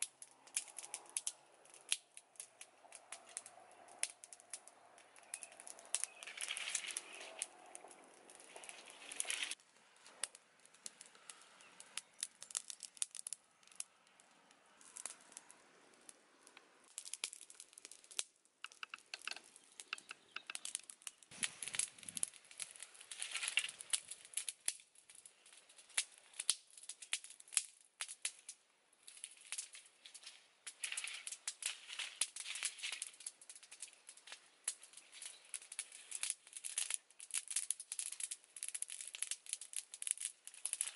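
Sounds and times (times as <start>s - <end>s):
dry leaves and twigs snapping: 0.0s - 40.9s
wood fire crackling: 0.0s - 40.9s.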